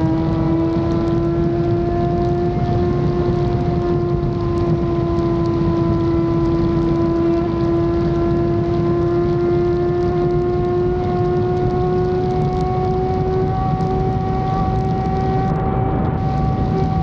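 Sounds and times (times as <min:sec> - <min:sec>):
motorcycle engine cruising: 0:00.0 - 0:17.0
wind rumbling on microphone: 0:00.0 - 0:17.0.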